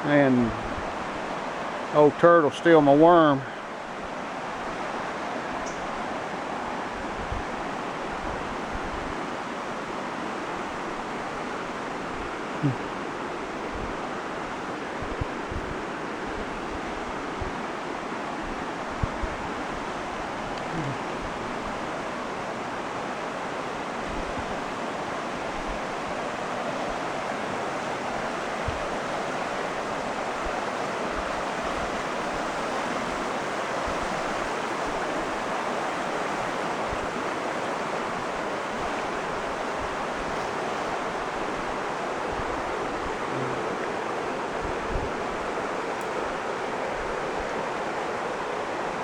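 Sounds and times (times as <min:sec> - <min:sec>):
river water flowing over rocks: 0:00.0 - 0:49.0.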